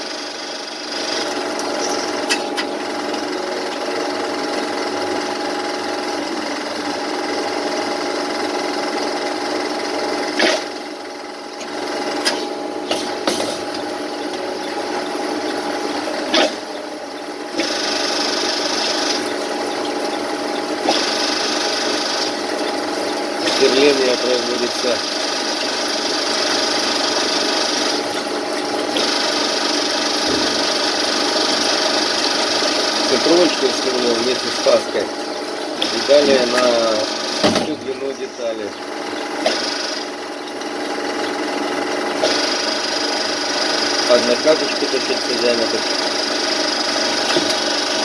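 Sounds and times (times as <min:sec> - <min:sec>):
lathe whining: 0:00.0 - 0:48.0.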